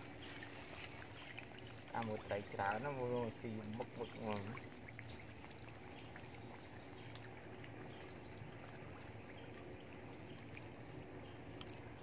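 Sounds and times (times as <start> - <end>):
pond water trickling and lapping: 0.0 - 12.0.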